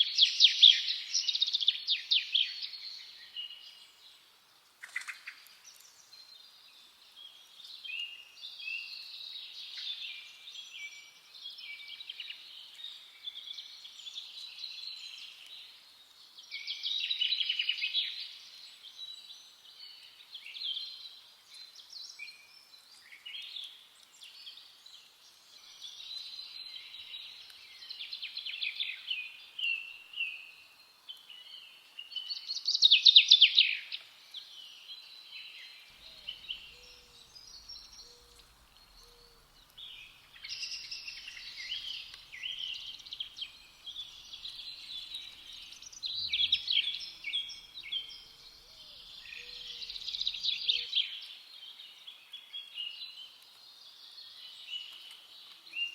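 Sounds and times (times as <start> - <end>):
songbirds singing and chirping: 0.0 - 55.9.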